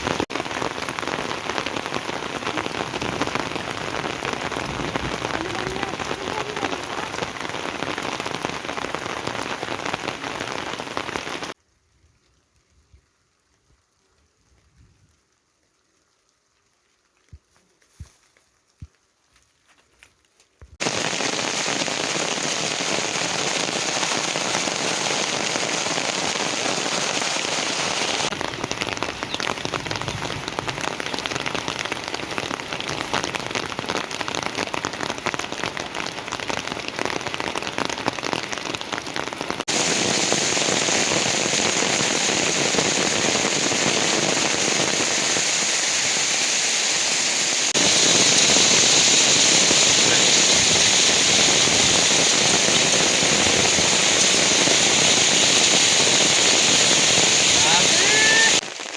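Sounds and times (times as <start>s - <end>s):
heavy rain hiss: 0.0s - 11.6s, 20.8s - 58.9s.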